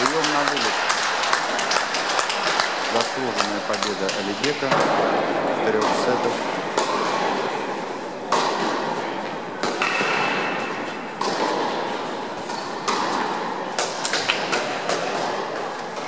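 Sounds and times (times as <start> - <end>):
tennis balls struck echoing: 0.0 - 16.0.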